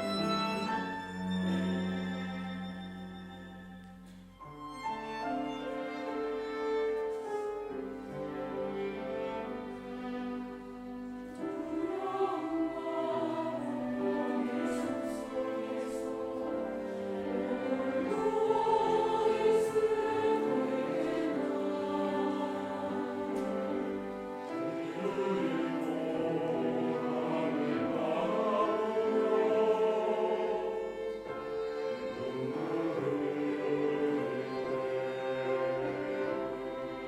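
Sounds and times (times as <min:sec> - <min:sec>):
choir singing in harmony: 0:00.0 - 0:02.8, 0:05.6 - 0:37.0
instrumental accompaniment: 0:00.0 - 0:37.0.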